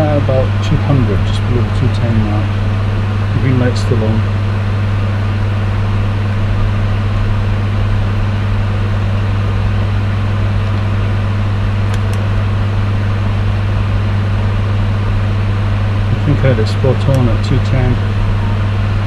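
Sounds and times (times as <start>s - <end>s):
loud low hum: 0.0s - 19.0s.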